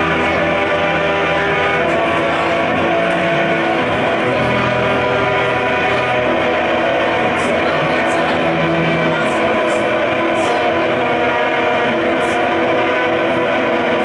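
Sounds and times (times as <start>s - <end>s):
band playing amplified music: 0.0s - 14.0s.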